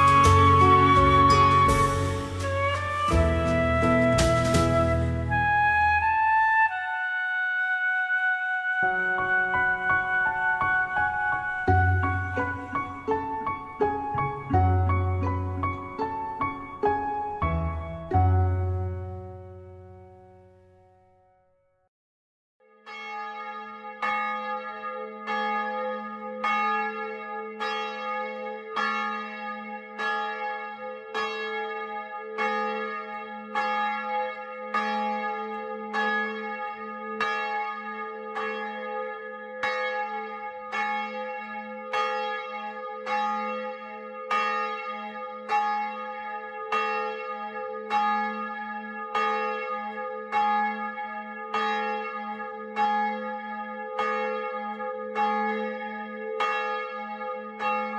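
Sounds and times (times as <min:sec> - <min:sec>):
church bell tolling: 0:00.0 - 0:02.4, 0:08.8 - 0:20.7, 0:22.9 - 0:57.9.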